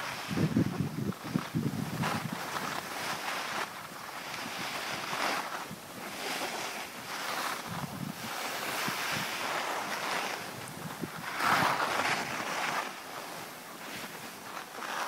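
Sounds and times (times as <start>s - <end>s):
skis scraping over snow: 0.0s - 15.0s
wind on microphone: 0.0s - 15.0s.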